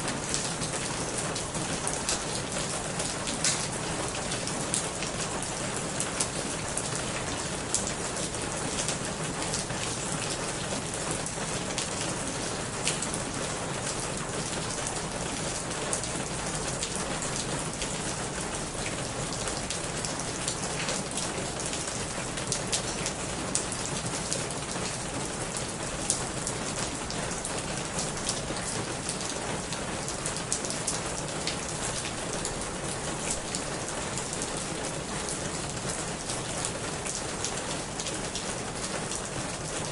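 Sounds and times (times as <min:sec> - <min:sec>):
rain on a corrugated roof: 0:00.0 - 0:39.9.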